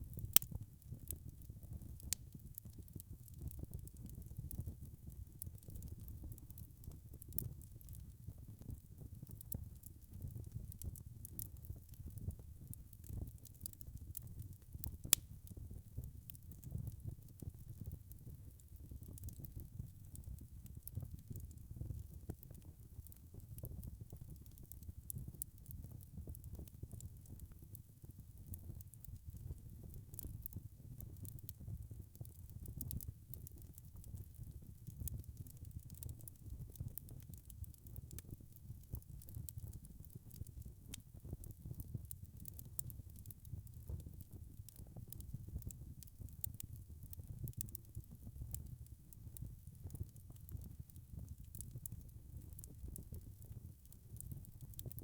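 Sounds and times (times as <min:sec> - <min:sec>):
fire crackling and popping: 0:00.0 - 0:55.0
log fire burning: 0:00.0 - 0:55.0.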